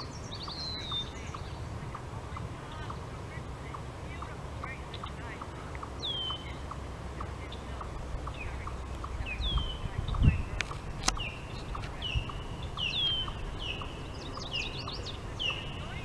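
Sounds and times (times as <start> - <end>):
faint regular ticking: 1.3 - 15.6.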